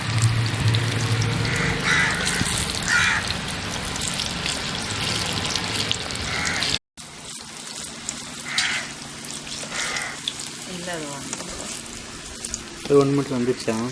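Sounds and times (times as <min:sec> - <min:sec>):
deep-frying sizzle in oil: 0:00.0 - 0:13.9.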